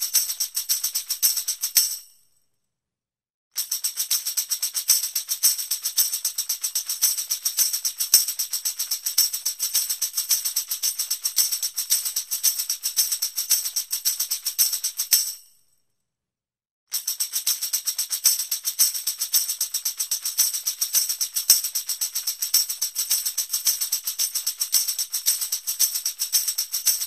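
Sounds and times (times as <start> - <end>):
tambourine jingle roll: 0.0 - 2.2, 3.6 - 15.6, 16.9 - 27.0.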